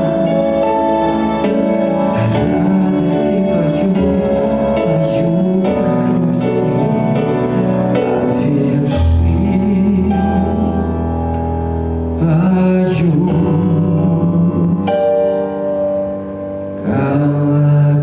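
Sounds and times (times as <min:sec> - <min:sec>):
instrumental accompaniment: 0:00.0 - 0:18.0
person singing: 0:00.0 - 0:18.0.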